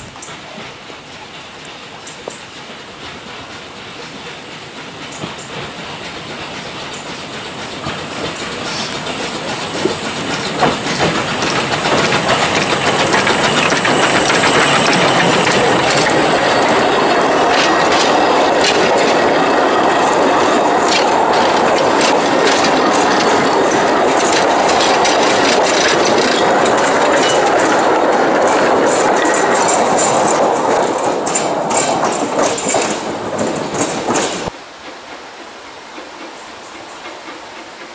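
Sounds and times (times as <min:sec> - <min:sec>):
steam train passing: 0:00.0 - 0:37.9
wheels clicking over rail joints: 0:00.0 - 0:37.9.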